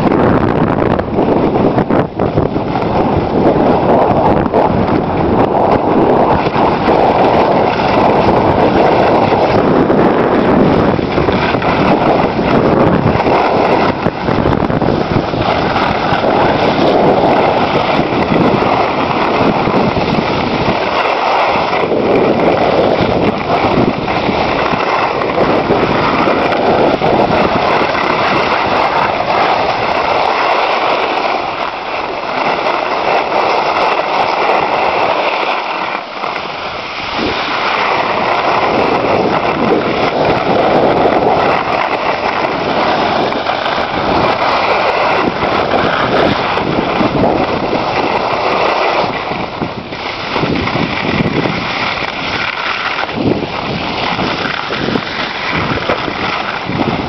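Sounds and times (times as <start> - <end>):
skis scraping over snow: 0.0 - 57.0
wind rushing on microphone: 0.0 - 57.0.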